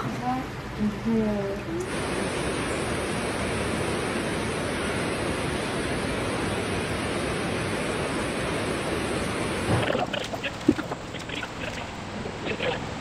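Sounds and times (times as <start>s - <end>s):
steady rushing hiss: 1.8s - 13.0s.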